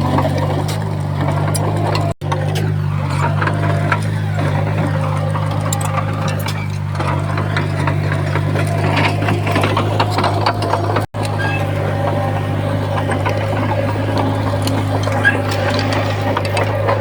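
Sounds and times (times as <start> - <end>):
bulldozer diesel engine running: 0.0 - 17.0
sharp clacks and cracks: 0.0 - 17.0.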